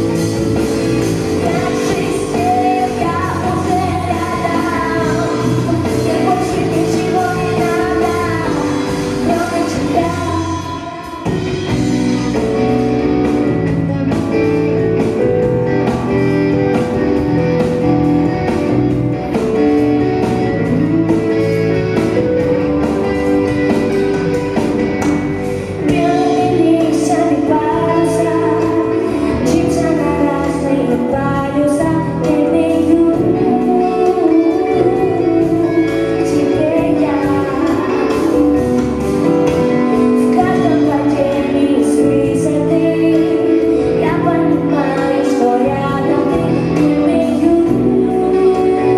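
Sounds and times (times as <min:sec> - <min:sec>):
woman singing: 0:00.0 - 0:12.6, 0:20.4 - 0:23.8, 0:25.1 - 0:48.9
band playing: 0:00.0 - 0:48.9.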